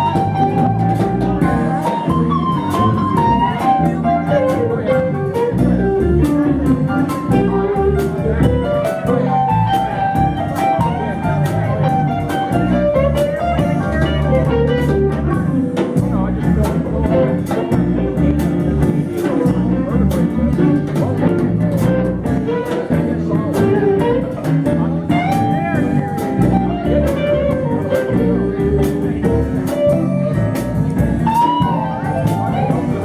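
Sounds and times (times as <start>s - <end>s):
blues guitar music: 0.0s - 33.0s.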